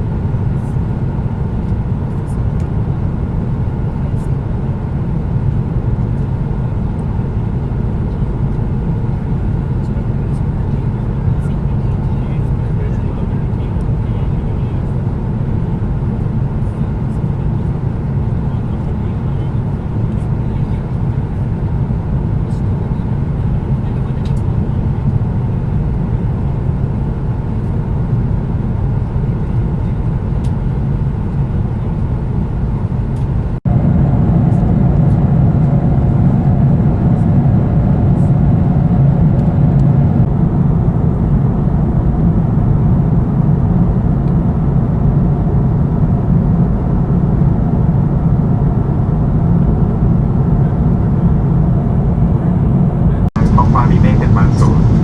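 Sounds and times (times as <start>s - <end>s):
airliner cabin noise: 0.0s - 55.0s.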